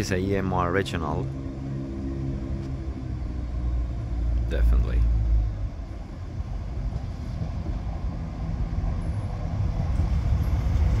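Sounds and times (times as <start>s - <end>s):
diesel train engines rumbling: 0.0s - 11.0s.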